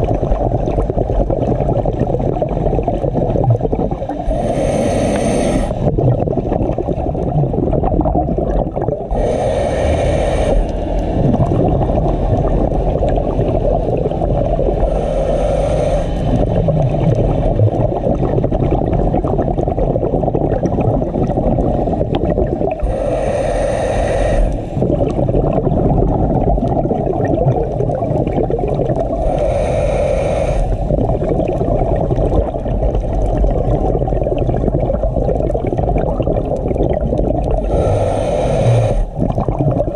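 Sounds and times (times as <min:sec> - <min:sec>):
exhaled bubbles underwater: 0:00.0 - 0:39.9
low rumble of water: 0:00.0 - 0:39.9.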